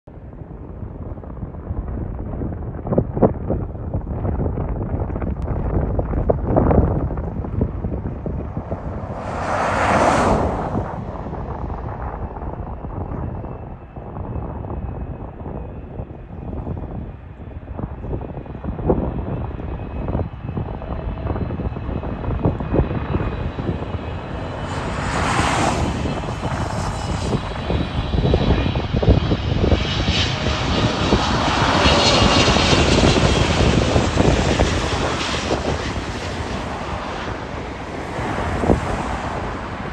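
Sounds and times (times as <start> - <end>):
jet engine noise: 0.1 - 39.9.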